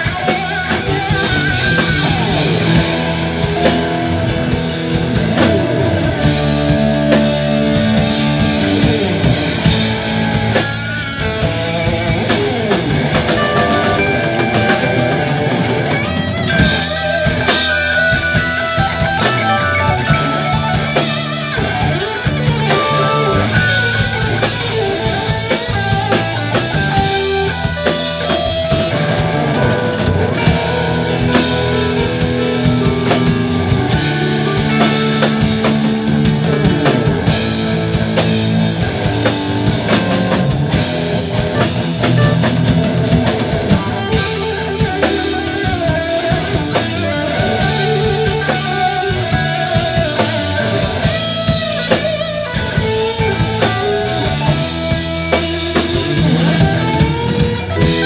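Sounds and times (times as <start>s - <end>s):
bass guitar: 0.0s - 58.0s
drum kit: 0.0s - 58.0s
electric guitar melody: 0.0s - 58.0s.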